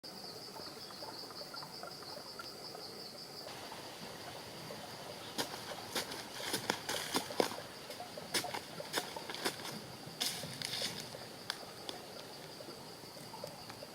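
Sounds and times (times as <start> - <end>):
insects chirring: 0.1 - 13.9.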